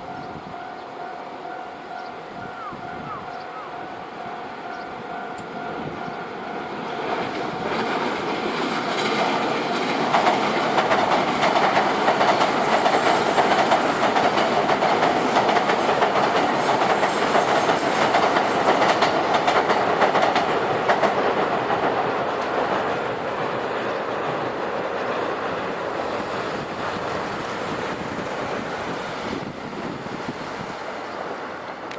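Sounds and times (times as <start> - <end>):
train wheels clacking: 4.7 - 31.9.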